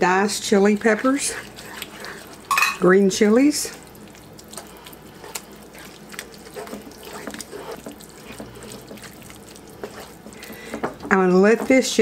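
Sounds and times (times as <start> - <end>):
wooden spoon scraping in skillet: 0.5 - 12.0.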